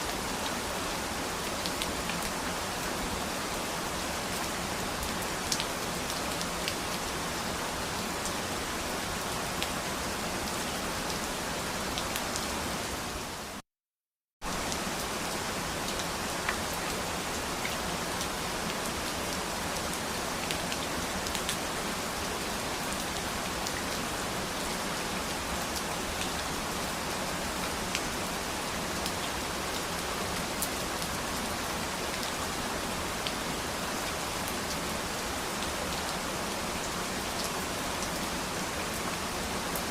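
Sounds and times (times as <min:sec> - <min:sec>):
steady rain falling: 0:00.0 - 0:13.6, 0:14.4 - 0:39.9.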